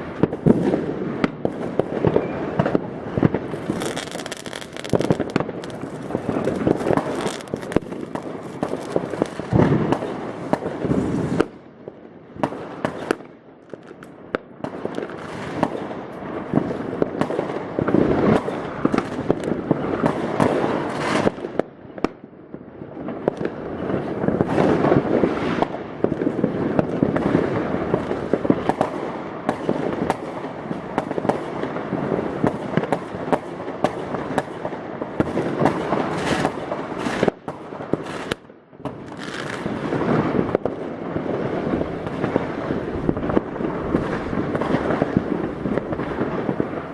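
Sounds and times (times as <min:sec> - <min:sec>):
fireworks banging: 0:00.0 - 0:11.6, 0:12.4 - 0:22.2, 0:23.0 - 0:46.9
firecrackers crackling: 0:00.0 - 0:46.9.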